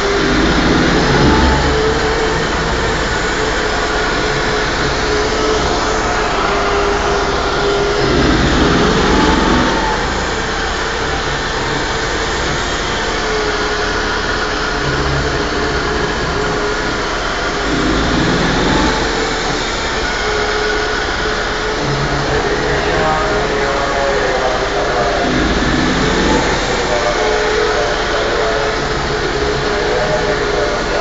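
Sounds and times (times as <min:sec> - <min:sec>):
flange facing machine running: 0:00.0 - 0:31.0.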